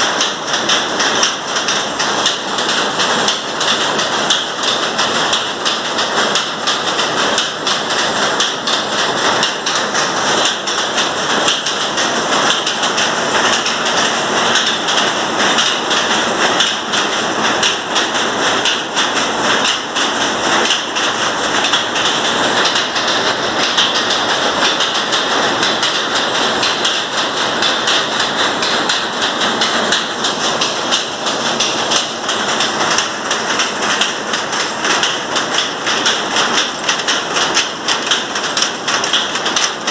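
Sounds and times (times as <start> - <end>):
power looms clattering: 0.0 - 39.9.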